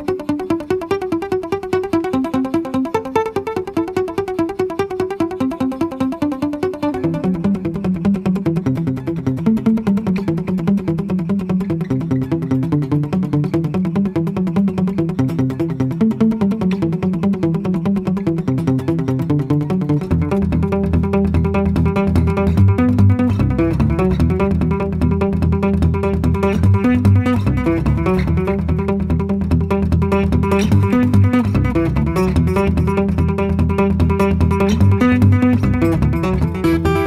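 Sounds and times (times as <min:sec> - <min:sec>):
fingerstyle acoustic guitar: 0:00.0 - 0:37.0.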